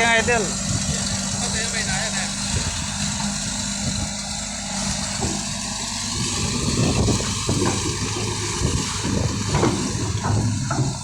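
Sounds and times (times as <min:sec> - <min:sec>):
diesel engine running unevenly: 0:00.0 - 0:11.0.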